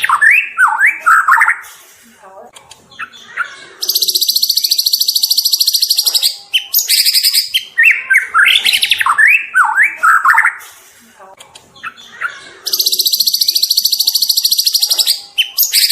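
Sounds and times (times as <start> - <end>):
bird singing trills and whistles: 0.0 - 1.6, 2.9 - 10.6, 11.8 - 15.9.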